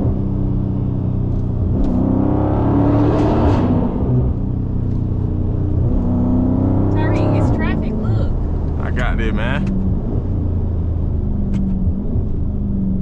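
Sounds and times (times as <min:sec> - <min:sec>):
car engine drone from inside cabin: 0:00.0 - 0:13.0.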